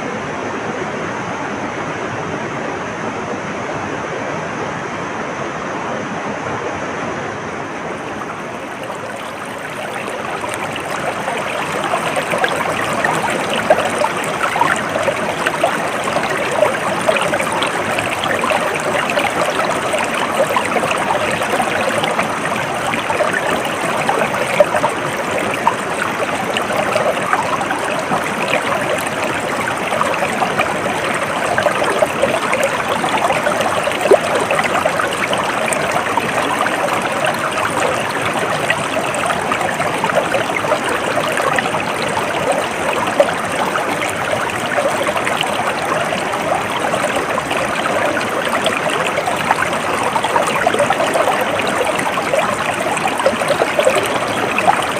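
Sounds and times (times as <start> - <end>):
stream water flowing: 0.0 - 54.9
small trickles and splashes: 7.8 - 54.9.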